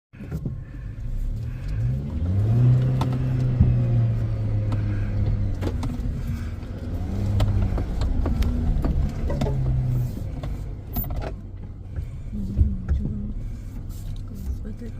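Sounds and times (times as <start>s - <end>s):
vehicle engine revving: 0.2s - 14.9s.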